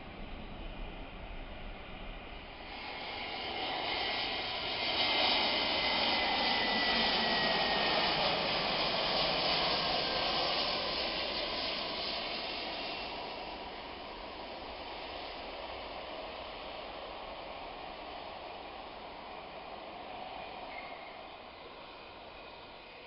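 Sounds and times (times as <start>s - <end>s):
jet airliner engine noise: 0.0s - 23.0s.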